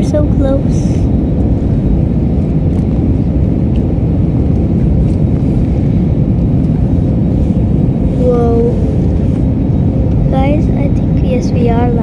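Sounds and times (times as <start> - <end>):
jet engines and airflow rush: 0.0 - 12.0.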